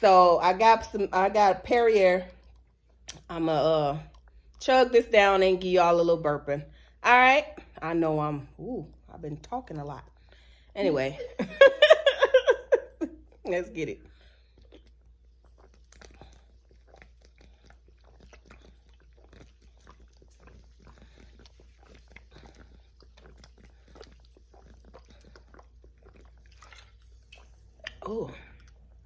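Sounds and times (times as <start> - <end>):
gulping sparkling water: 0.0 - 29.0.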